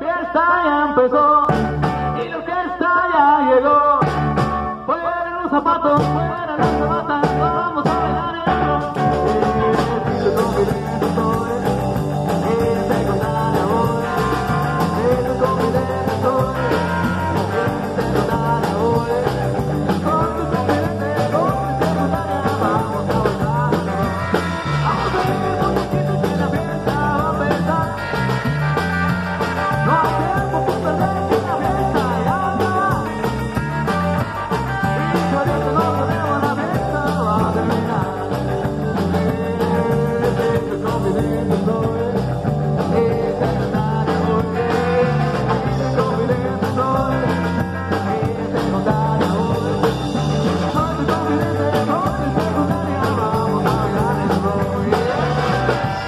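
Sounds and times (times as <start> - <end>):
live rock and roll band: 0.0 - 56.0.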